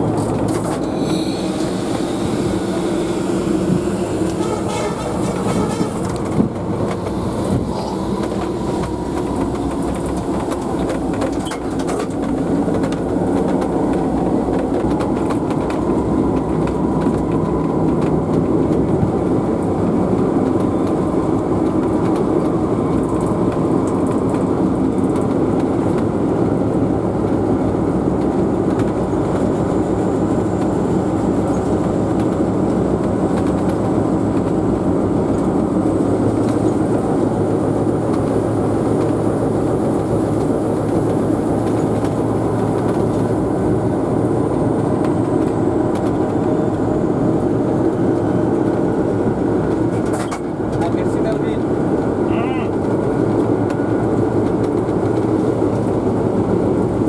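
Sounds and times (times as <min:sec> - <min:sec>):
diesel locomotive engine rumbling: 0:00.0 - 0:57.0.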